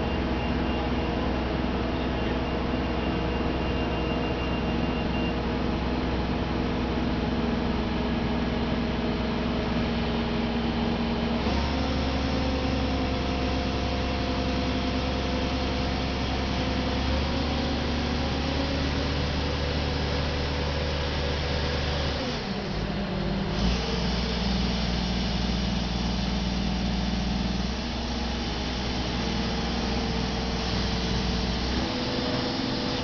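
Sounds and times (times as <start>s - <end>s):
crane diesel engine running: 0.0s - 33.0s.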